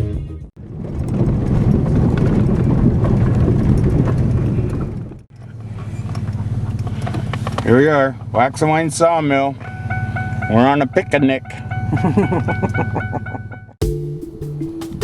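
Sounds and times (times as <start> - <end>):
road and tyre noise: 0.6 - 13.8.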